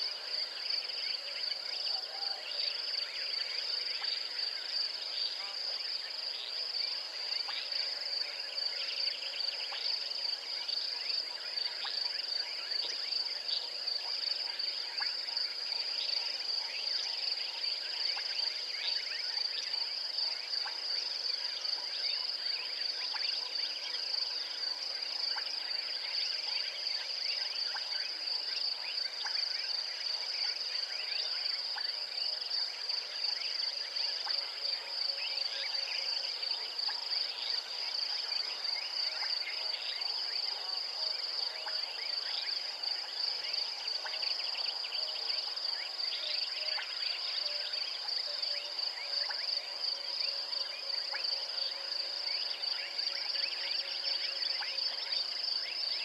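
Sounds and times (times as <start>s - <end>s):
insect chirps and calls: 0.0s - 56.0s.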